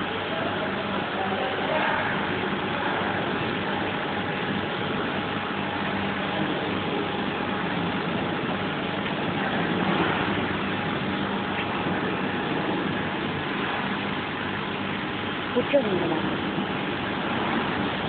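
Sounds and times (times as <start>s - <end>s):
machine whirring with low hum: 0.0s - 18.0s.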